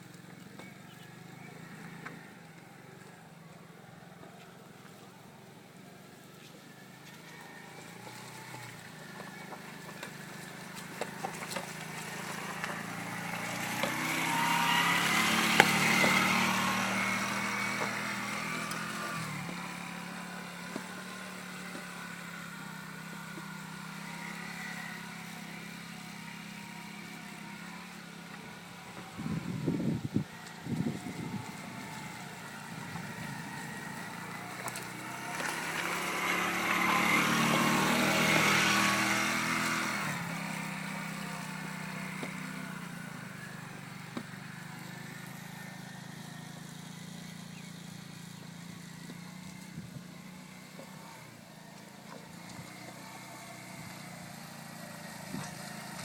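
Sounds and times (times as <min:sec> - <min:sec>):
quad bike engine: 0:00.0 - 0:56.0.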